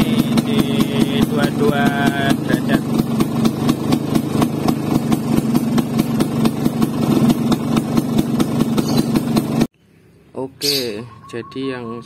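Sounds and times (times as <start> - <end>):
two-stroke scooter engine idling: 0.0 - 9.7.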